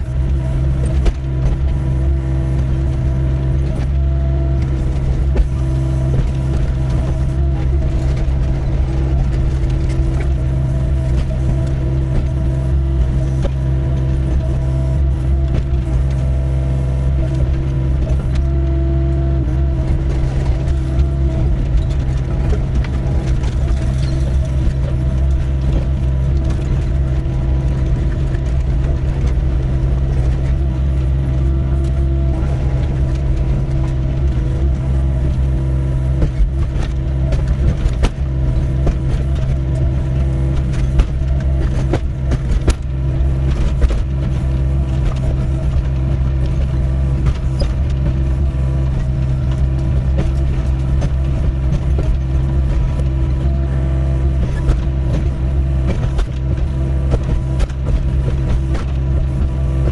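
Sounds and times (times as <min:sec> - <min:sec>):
excavator diesel engine running: 0:00.0 - 0:59.9
knocks and scrapes: 0:00.0 - 0:59.9.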